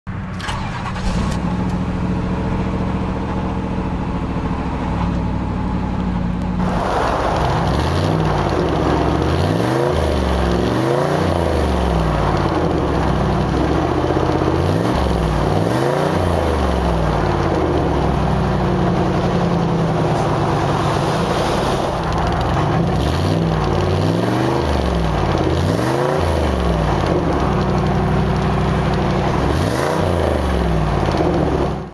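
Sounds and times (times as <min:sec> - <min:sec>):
car engine idling and revving: 0:00.1 - 0:31.9.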